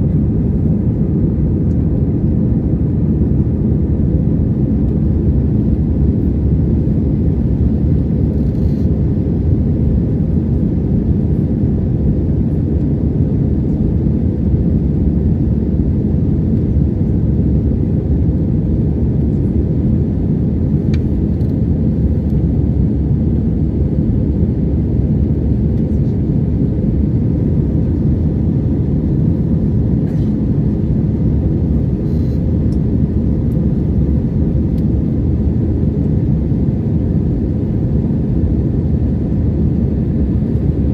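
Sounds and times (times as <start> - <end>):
jet cabin engine and airflow rumble: 0.0 - 40.9.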